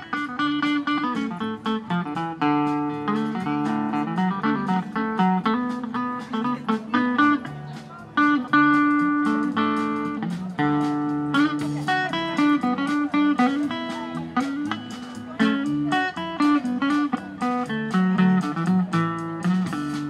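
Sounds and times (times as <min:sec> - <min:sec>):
guitar bass and drums trio: 0:00.0 - 0:20.0.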